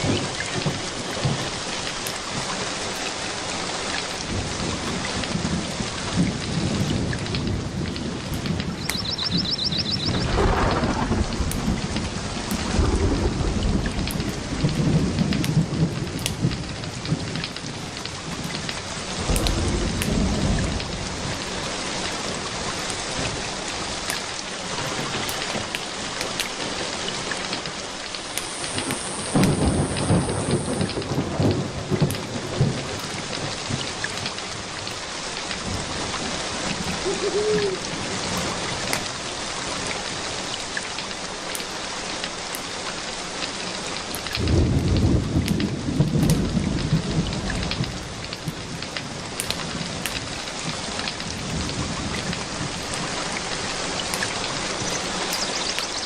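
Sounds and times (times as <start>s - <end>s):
low rolls of thunder: 0.0s - 2.5s, 4.2s - 24.1s, 28.4s - 39.2s, 44.3s - 56.0s
steady rain falling: 0.0s - 56.0s.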